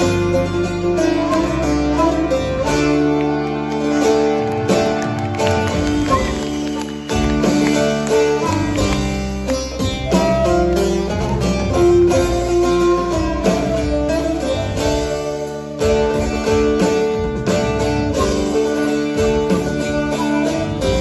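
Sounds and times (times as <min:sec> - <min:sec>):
plucked string folk music: 0:00.0 - 0:21.0.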